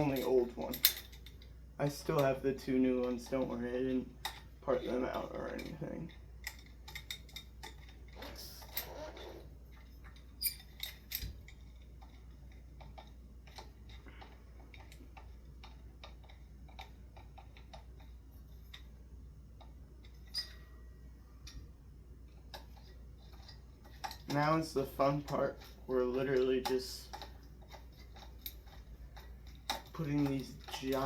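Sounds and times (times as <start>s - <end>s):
metal parts clicking and tapping: 0.0s - 31.0s.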